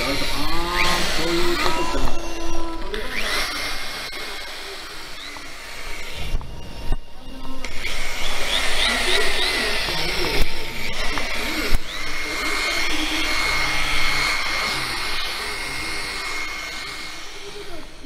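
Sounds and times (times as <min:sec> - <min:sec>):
electric sander motor whine: 0:00.0 - 0:18.0.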